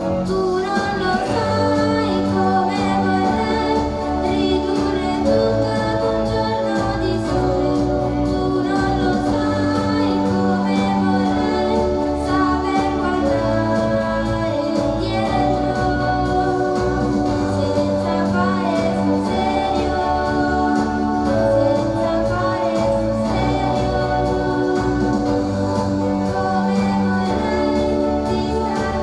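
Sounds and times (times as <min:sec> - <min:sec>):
girl singing into microphone: 0:00.0 - 0:29.0
live instrumental accompaniment: 0:00.0 - 0:29.0.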